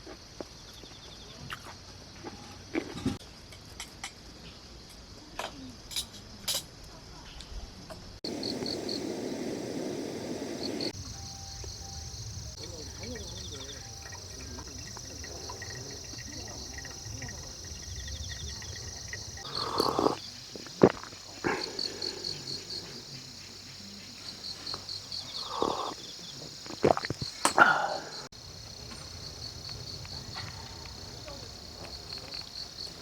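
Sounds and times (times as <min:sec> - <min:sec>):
insects chirping in trills: 0:00.0 - 0:33.0.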